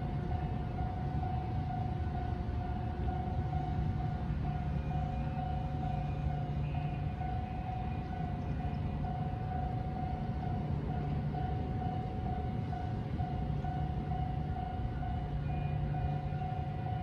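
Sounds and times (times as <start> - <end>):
level-crossing warning bell: 0.0 - 17.0.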